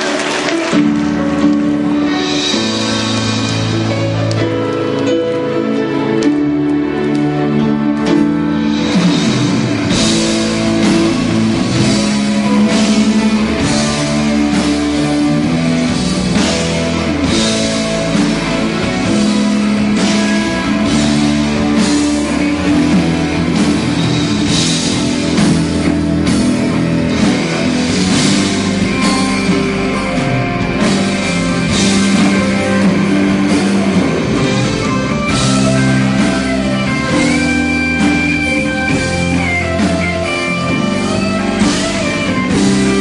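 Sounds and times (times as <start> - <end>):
steady drum beat: 0.0 - 4.6, 8.6 - 43.0
electric guitar: 0.0 - 43.0.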